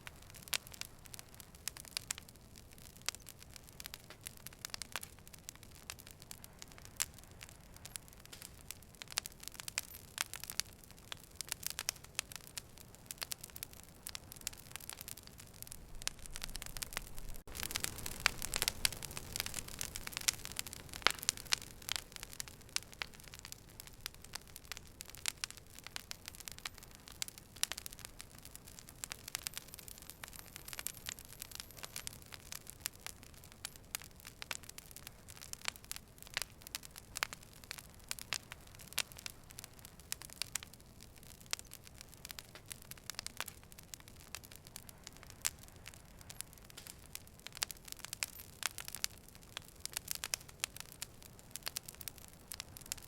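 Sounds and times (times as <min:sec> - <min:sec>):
fire crackling and popping: 0:00.0 - 0:53.0
low steady hiss: 0:00.0 - 0:53.0.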